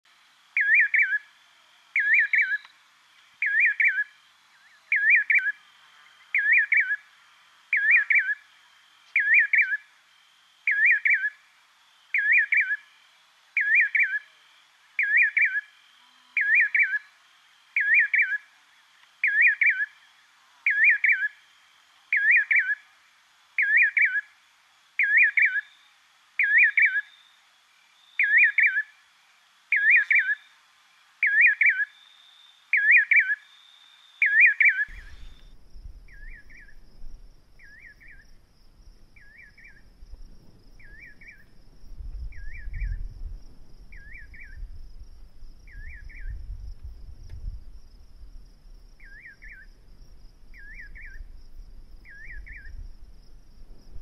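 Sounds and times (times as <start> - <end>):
nightjar singing: 0.5 - 2.8, 3.4 - 22.9, 23.6 - 29.0, 29.7 - 30.6, 31.2 - 38.4, 39.1 - 41.6, 42.2 - 43.2, 43.9 - 46.6, 49.0 - 52.9.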